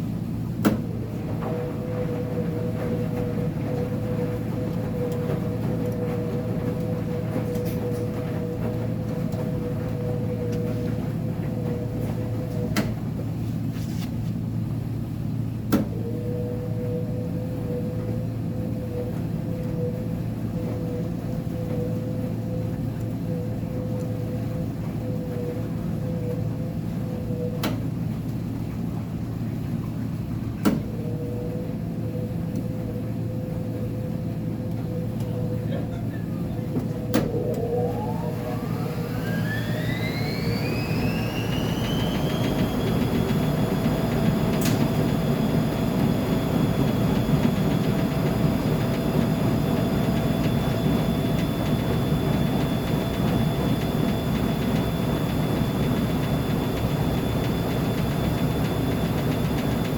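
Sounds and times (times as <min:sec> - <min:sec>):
washer drum rumble: 0:00.0 - 0:59.9
washer motor hum: 0:00.0 - 0:59.9.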